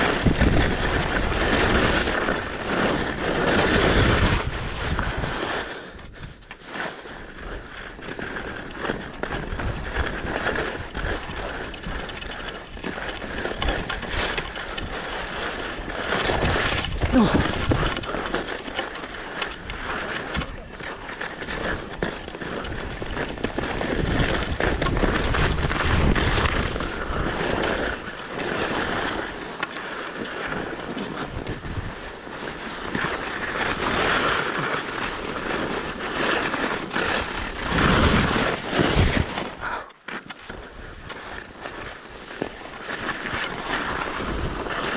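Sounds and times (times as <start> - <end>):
skis scraping over snow: 0.0 - 44.9.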